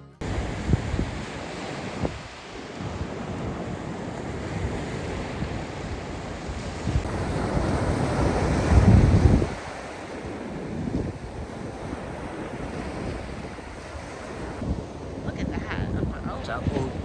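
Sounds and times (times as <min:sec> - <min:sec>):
wind buffeting microphone: 0:00.2 - 0:17.0.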